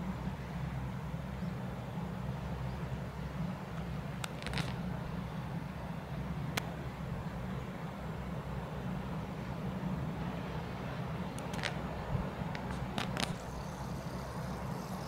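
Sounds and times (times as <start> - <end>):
wind rumbling on microphone: 2.8 - 15.0.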